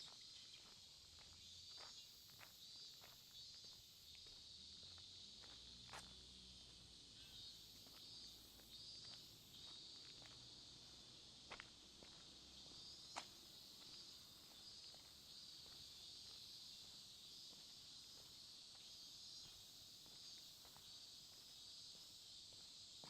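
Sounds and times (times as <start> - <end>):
night insects chirring: 0.0 - 23.0.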